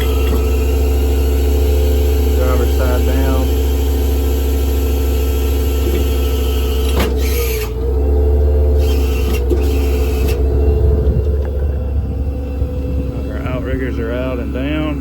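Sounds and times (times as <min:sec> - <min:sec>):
truck engine hum with whine: 0:00.0 - 0:15.0.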